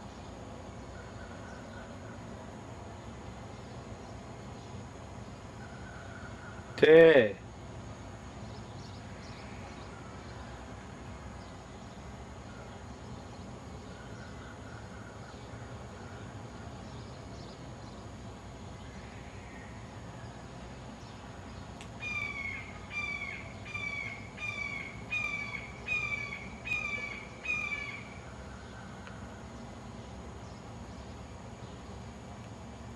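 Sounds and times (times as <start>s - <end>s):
faint background hiss: 0.0s - 32.9s.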